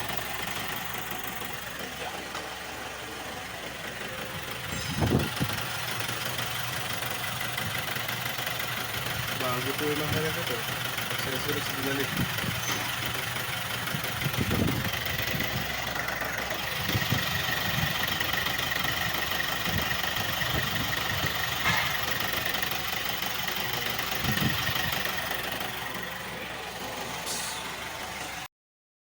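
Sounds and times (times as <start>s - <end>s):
diesel engine idling: 0.0s - 28.5s.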